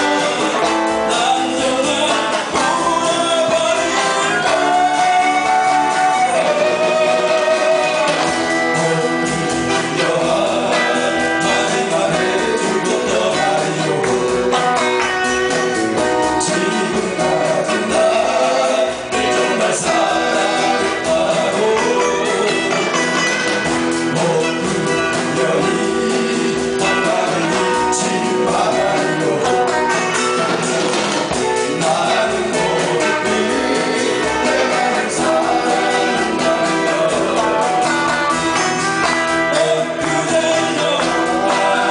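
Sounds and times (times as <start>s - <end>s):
guitar accompaniment: 0.0s - 41.9s
person singing: 0.0s - 41.9s.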